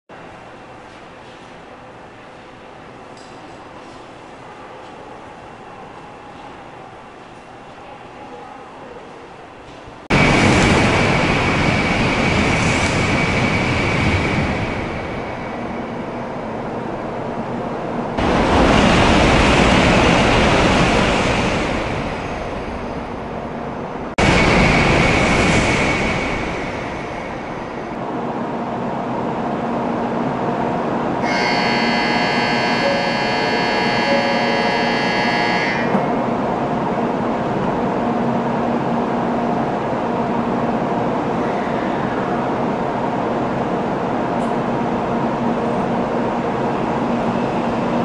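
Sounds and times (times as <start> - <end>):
high-speed train passing: 0.1 - 48.0.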